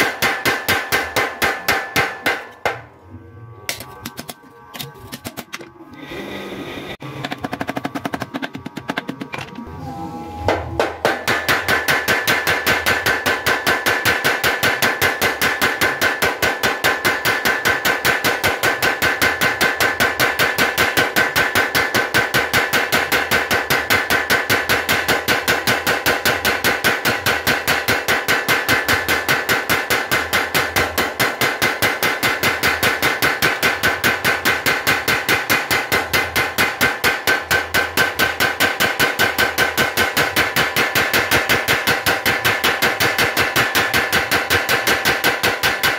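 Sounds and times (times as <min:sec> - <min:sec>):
power hammer striking steel: 0:00.0 - 0:02.9, 0:10.5 - 0:45.9.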